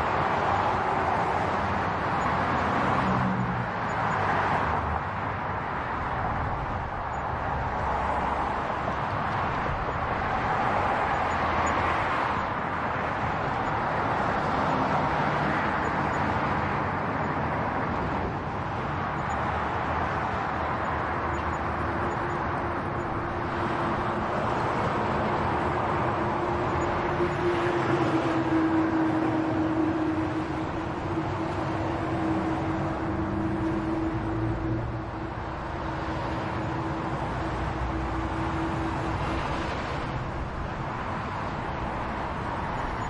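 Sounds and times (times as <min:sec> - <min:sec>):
passing traffic: 0:00.0 - 0:43.0.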